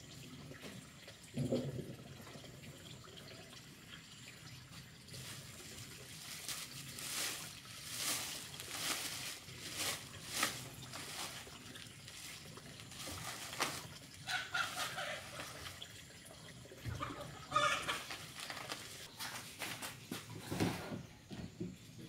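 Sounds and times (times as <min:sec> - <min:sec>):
water dripping and trickling: 0:00.0 - 0:19.1.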